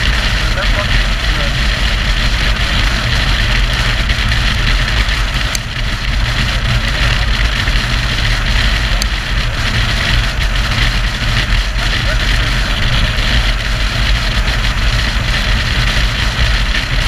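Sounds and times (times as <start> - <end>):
motorcycle engine drone: 0.0 - 17.0
wind and road noise: 0.0 - 17.0.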